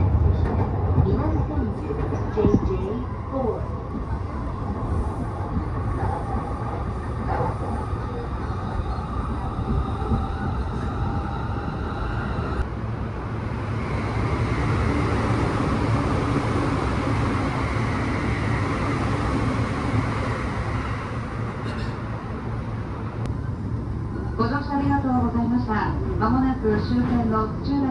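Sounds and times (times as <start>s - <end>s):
electric train rumbling: 0.0s - 27.9s
rail noise: 0.0s - 27.9s.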